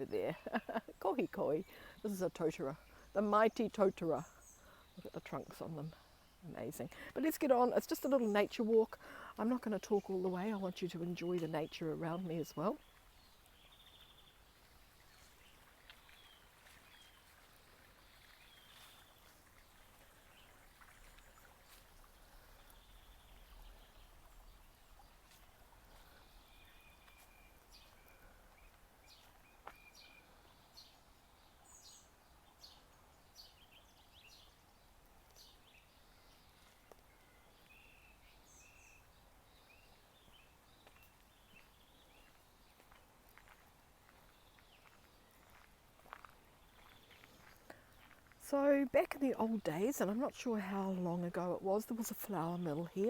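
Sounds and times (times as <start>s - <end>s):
small birds chirping: 0.0s - 53.0s
soft steady hiss: 0.0s - 53.0s.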